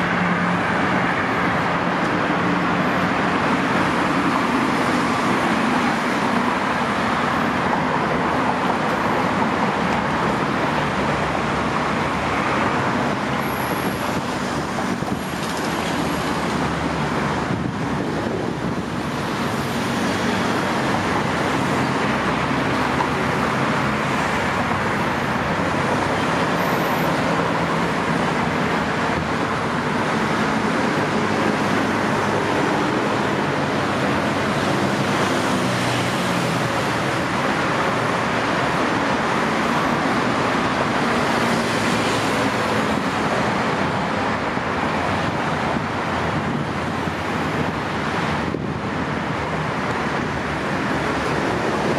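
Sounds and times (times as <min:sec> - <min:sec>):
cars and buses passing: 0:00.0 - 0:51.9
road traffic: 0:00.0 - 0:51.9.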